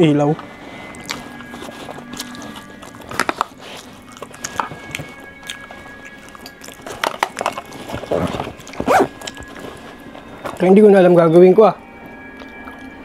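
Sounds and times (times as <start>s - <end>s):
steady high tone: 0.0s - 7.3s, 8.9s - 13.0s
faint background music: 0.0s - 13.0s
food packaging rustling: 0.4s - 10.9s.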